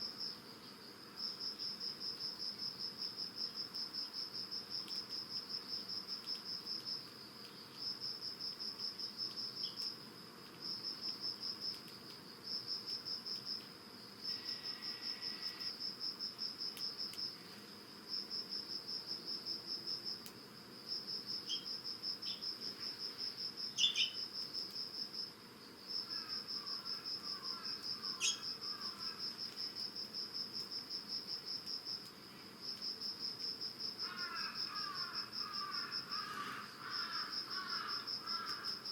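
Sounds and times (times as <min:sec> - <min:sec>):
insects chirping in trills: 0:00.0 - 0:38.9.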